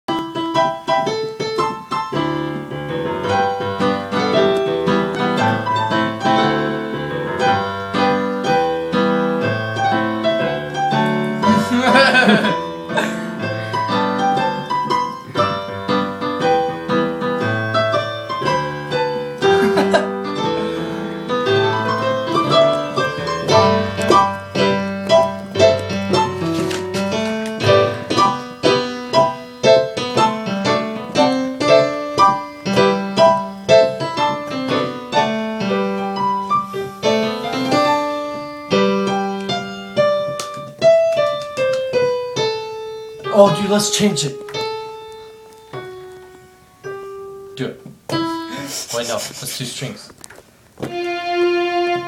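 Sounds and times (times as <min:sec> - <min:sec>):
electronic keyboard piano music: 0:00.1 - 0:48.7.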